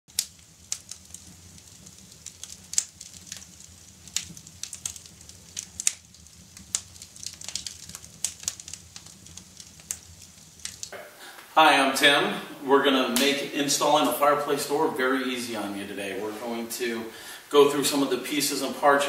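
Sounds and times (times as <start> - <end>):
fire crackling and popping: 0.1 - 19.0.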